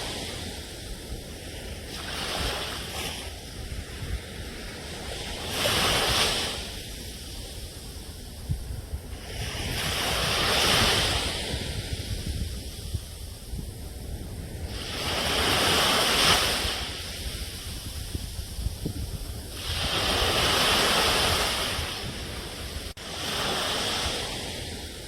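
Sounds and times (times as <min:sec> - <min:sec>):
waves washing on shore: 0:00.0 - 0:25.0.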